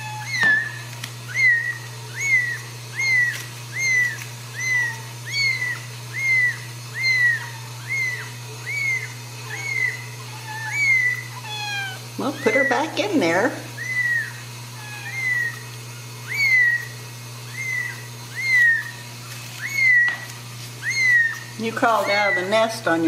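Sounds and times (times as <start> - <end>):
kitten mewing: 0.0 - 19.0, 19.6 - 23.0.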